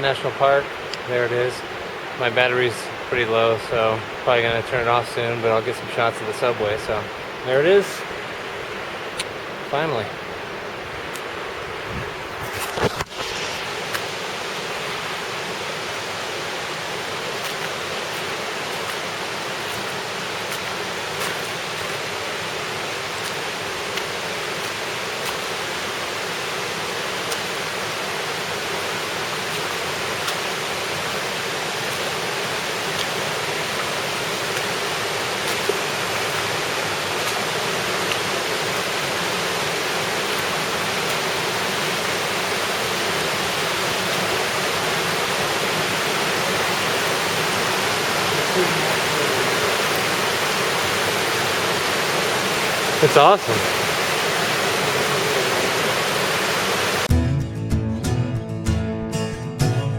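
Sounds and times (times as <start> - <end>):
waterfall rushing: 0.0 - 57.1.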